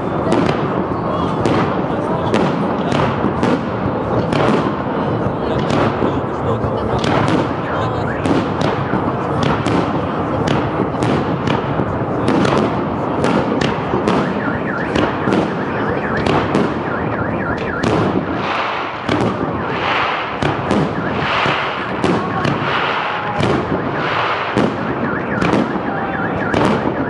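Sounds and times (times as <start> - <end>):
fireworks bursting: 0.0 - 27.0
fireworks crackling: 0.0 - 27.0.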